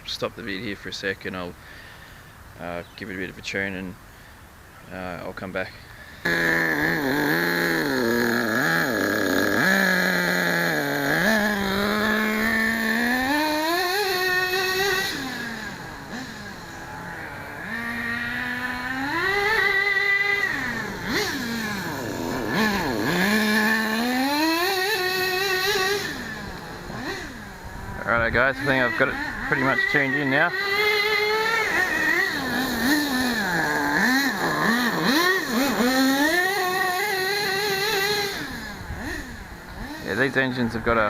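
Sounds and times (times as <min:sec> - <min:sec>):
small nitro engine revving: 0:06.1 - 0:41.0.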